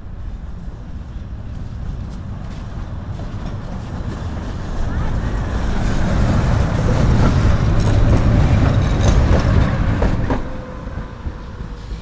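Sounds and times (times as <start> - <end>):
tram wheels rumbling on rails: 0.0 - 12.0
wheels knocking on rail joints: 2.0 - 11.8.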